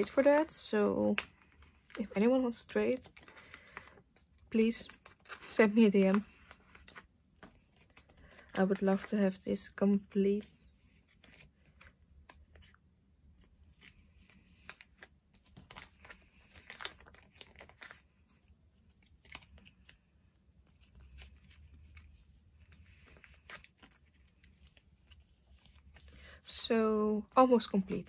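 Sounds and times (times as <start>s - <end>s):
plastic sleeves crinkling: 0.0s - 28.0s.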